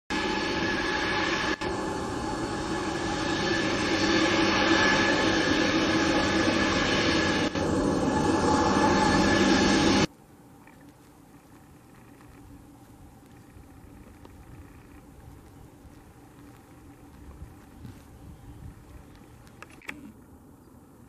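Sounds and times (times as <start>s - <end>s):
jet engines running: 0.1s - 21.0s.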